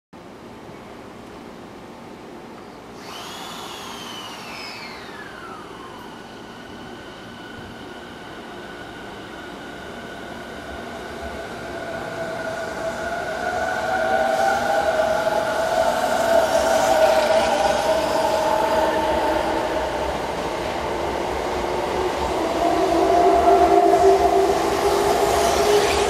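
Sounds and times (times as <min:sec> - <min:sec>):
electric train motors whining: 0:03.0 - 0:26.0.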